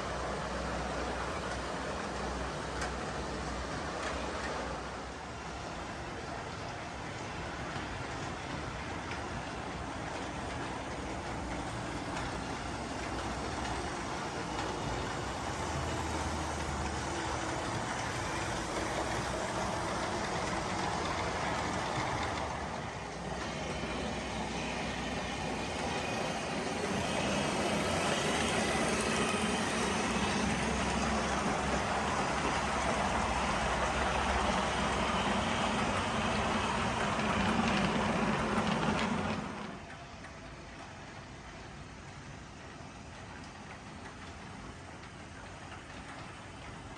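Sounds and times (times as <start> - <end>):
model train rumbling: 0.0 - 46.9.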